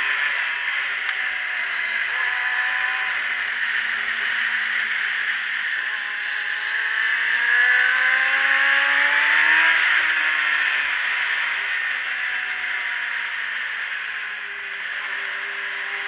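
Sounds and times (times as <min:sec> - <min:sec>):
motorcycle engine at speed: 0:00.0 - 0:16.0.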